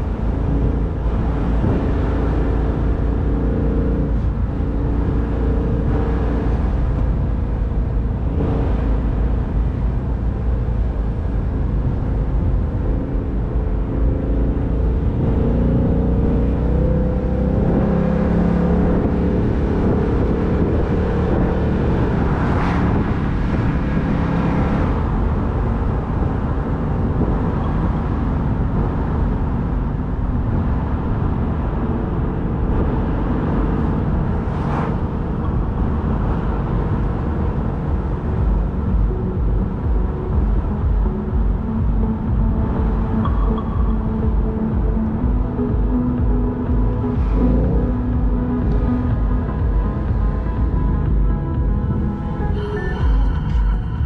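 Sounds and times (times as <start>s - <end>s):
car engine cruising: 0.0s - 54.0s
road noise: 0.0s - 54.0s
wind noise: 0.0s - 54.0s.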